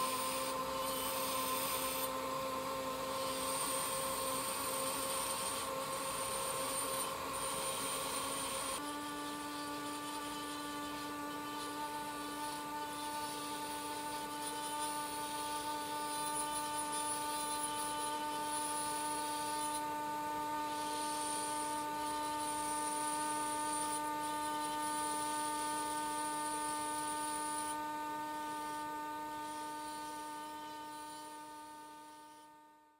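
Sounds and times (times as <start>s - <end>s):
micromotor handpiece whine: 0.0s - 32.9s.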